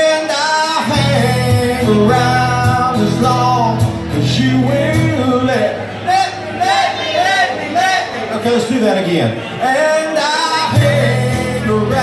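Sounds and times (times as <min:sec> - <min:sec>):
guitars playing chords: 0:00.0 - 0:08.7, 0:09.4 - 0:12.0.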